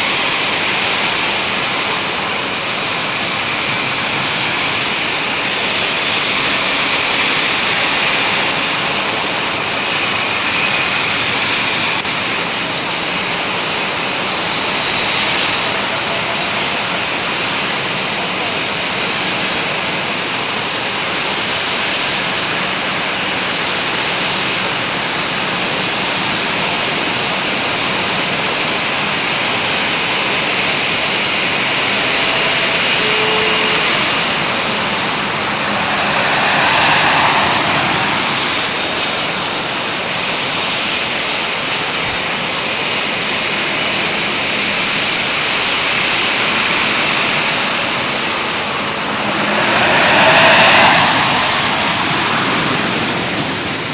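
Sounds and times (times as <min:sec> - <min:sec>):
jet engines rushing and whining: 0:00.0 - 0:53.9.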